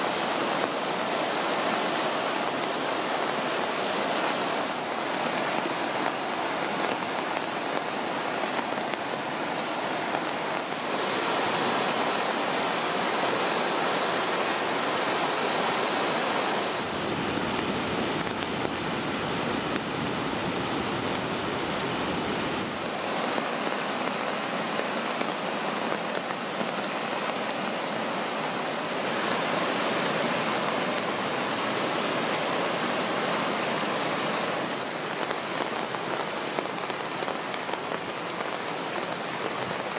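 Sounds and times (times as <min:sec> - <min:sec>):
river rushing through whitewater: 0:00.0 - 0:39.9.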